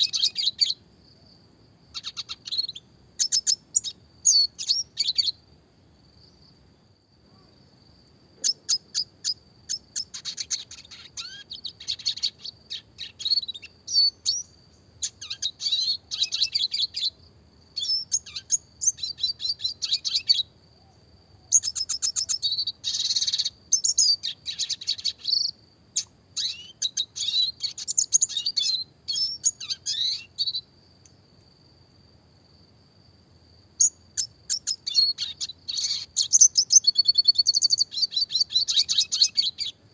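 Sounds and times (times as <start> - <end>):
bird singing twittering trills: 0.0 - 0.8, 1.8 - 5.4, 8.4 - 30.7, 33.8 - 39.9.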